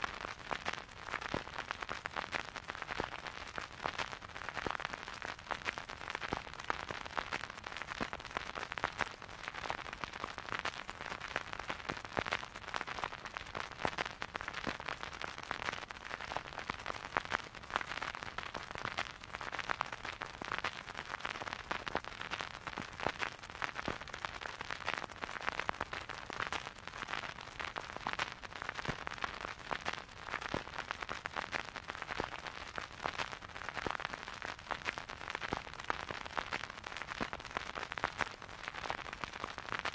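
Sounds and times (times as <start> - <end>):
vinyl record crackle and pops: 0.0 - 39.9.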